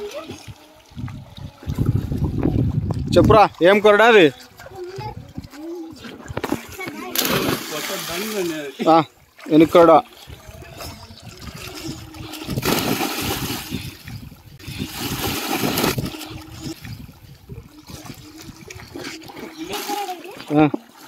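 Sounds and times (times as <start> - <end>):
children splashing water: 0.0 - 21.0.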